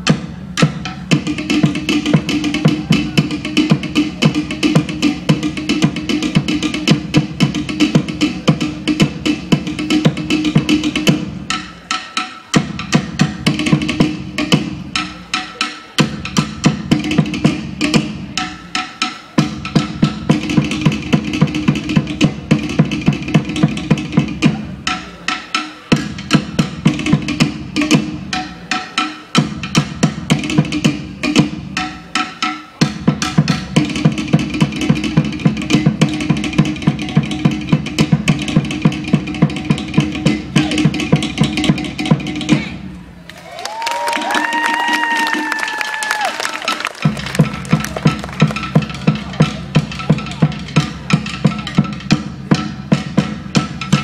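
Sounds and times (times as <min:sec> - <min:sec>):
deep drum beats: 0:00.0 - 0:43.3, 0:43.9 - 0:54.0.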